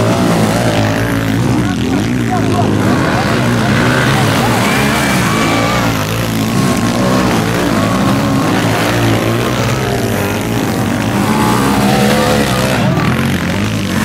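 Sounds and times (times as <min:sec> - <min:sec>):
motocross engines racing: 0:00.0 - 0:14.0.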